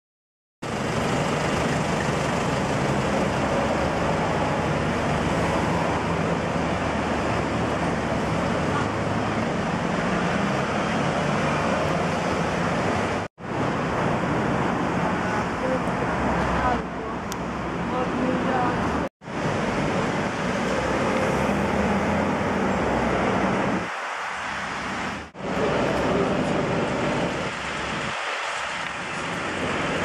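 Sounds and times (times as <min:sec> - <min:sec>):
street noise: 0:00.6 - 0:30.0
wind: 0:00.6 - 0:30.0.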